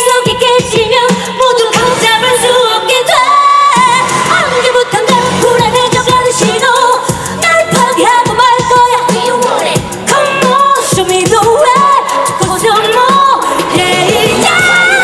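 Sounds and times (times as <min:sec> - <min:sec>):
dance beat over sound system: 0:00.0 - 0:15.0
woman singing pop song: 0:00.0 - 0:15.0.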